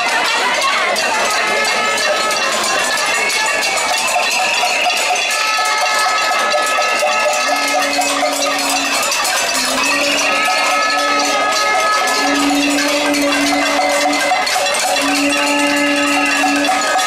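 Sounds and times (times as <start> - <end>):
pots and pans beaten: 0.0 - 17.0.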